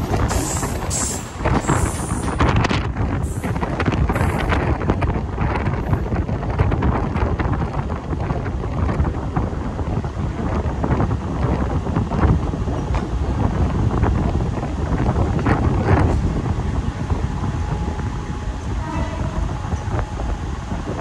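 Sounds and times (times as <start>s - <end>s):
train wheels on rails: 0.0s - 21.0s
wind buffeting microphone: 0.0s - 21.0s.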